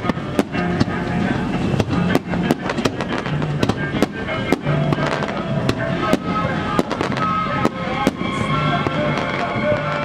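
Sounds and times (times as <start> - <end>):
fireworks banging: 0.0 - 10.0
music: 0.0 - 10.0.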